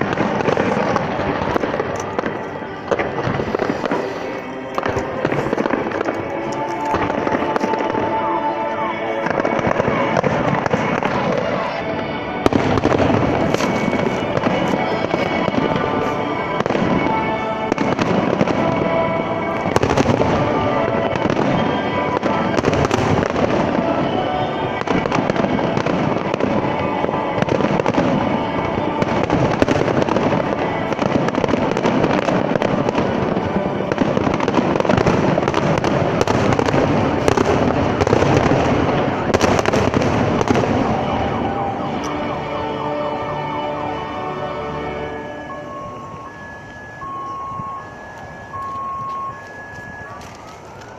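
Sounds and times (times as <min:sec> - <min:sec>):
fireworks bangs: 0:00.0 - 0:44.1, 0:44.8 - 0:50.9
music playing: 0:00.0 - 0:50.9.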